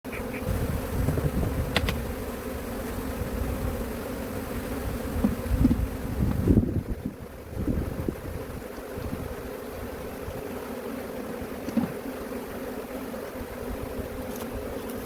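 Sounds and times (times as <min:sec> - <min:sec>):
bees buzzing: 0:00.1 - 0:15.0.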